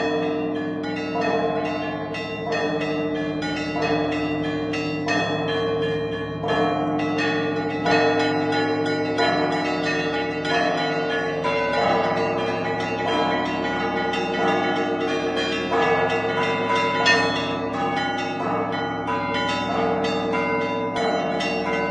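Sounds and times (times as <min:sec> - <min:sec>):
high church bells striking quickly: 0:00.0 - 0:21.9
low bells ringing: 0:00.0 - 0:21.9.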